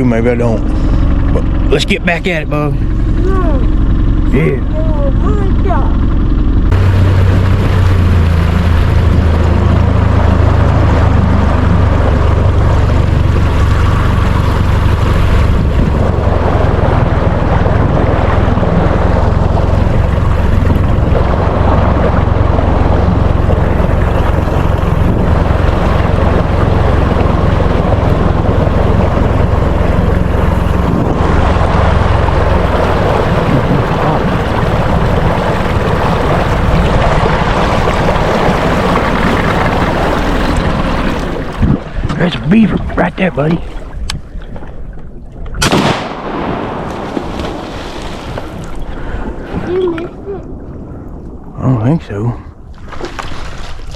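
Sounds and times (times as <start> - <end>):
boat motor running: 0.0 - 53.9
water rushing past hull: 0.0 - 53.9
wind on microphone: 2.8 - 53.9.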